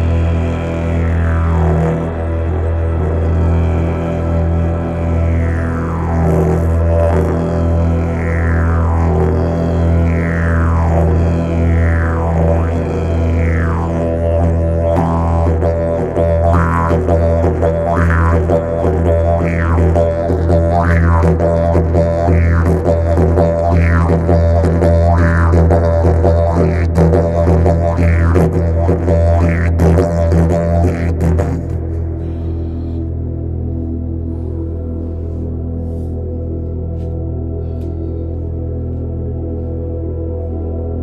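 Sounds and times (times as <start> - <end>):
didgeridoo low drone: 0.0 - 41.0.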